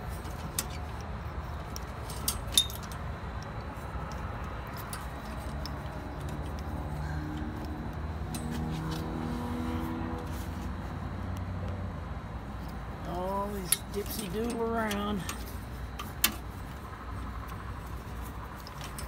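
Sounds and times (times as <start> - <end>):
wires clicking: 0.0 - 9.1, 12.6 - 19.0.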